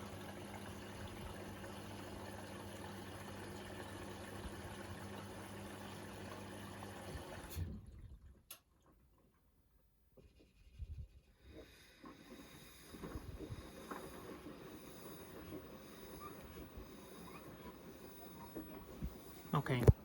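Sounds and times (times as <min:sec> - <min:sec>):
washing machine water intake: 0:00.0 - 0:08.7, 0:11.4 - 0:20.0.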